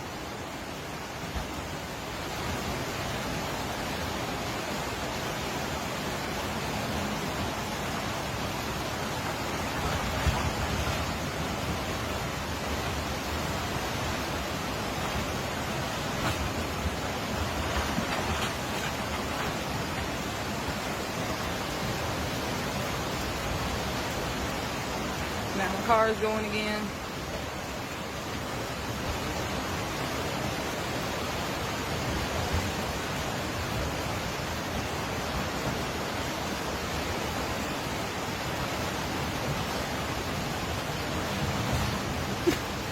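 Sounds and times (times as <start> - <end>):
floodwater rushing: 0.0 - 42.9
heavy rain: 0.0 - 42.9.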